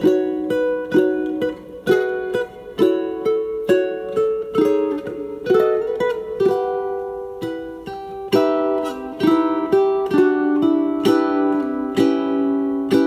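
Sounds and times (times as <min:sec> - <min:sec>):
fingerpicked ukulele: 0:00.0 - 0:13.0.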